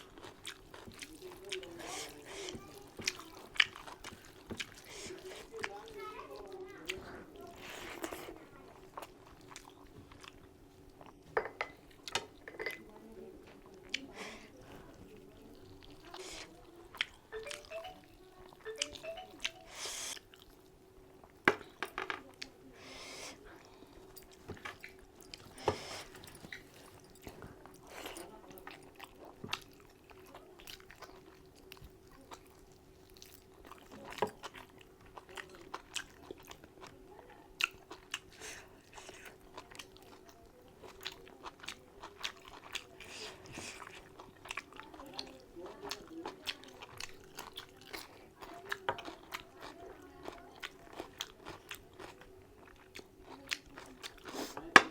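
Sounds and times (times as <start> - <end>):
person chewing wetly: 0.0 - 11.3, 14.9 - 21.4, 23.6 - 54.8.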